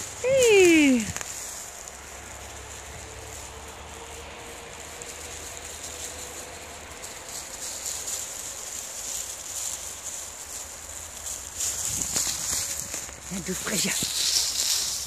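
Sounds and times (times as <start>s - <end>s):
dry leaves crunching underfoot: 0.0s - 15.0s.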